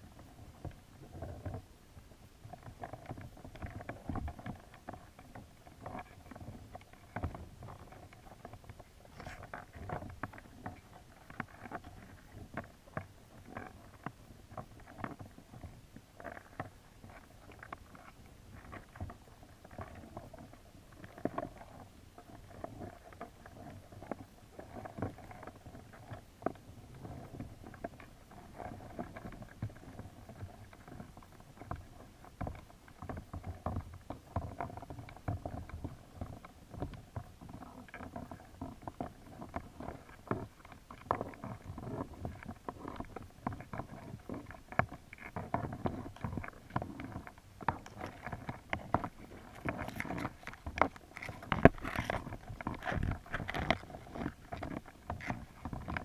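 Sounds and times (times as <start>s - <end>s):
underwater rumble of moving water: 0.0s - 56.0s
small clicks and knocks: 2.5s - 56.0s.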